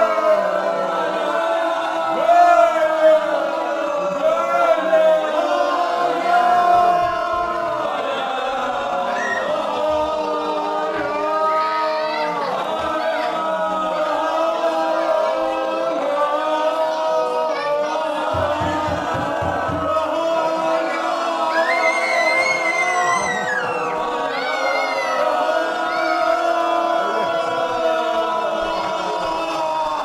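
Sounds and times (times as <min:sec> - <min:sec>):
group chanting vowel tones: 0:00.0 - 0:30.0.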